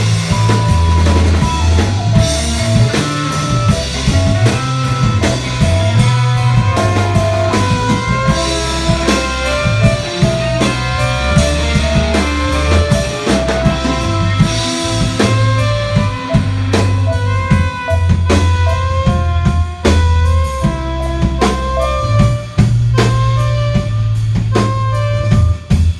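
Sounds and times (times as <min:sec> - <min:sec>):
electric guitar: 0:00.0 - 0:25.7
bass guitar notes: 0:00.0 - 0:25.9
drum kit beat: 0:00.0 - 0:25.9.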